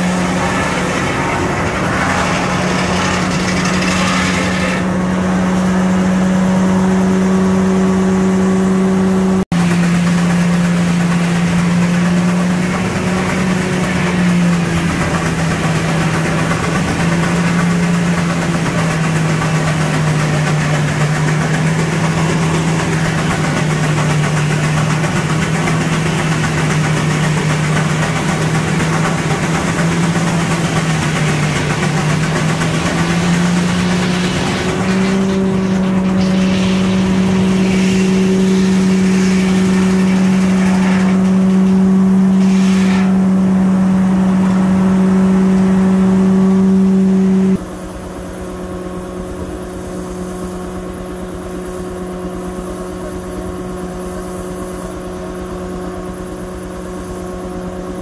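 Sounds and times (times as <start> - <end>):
sawmill mechanical hum: 0.0 - 58.0.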